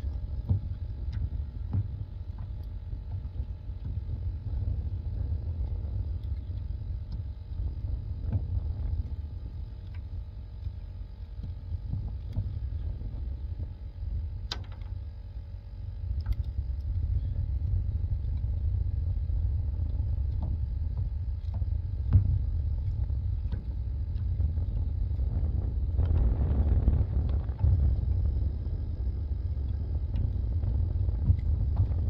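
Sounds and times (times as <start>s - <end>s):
wind buffeting microphone: 0.0s - 14.8s, 15.9s - 32.0s.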